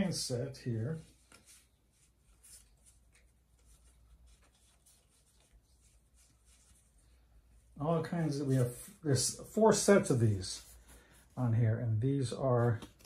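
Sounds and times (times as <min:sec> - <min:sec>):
faint handling rustles: 0:00.6 - 0:13.0.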